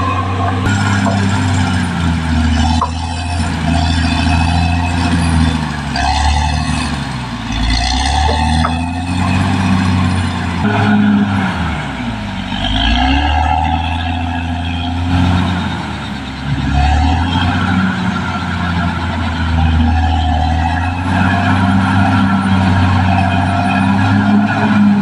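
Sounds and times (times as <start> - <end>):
bulldozer diesel engine under load: 0.0 - 25.0.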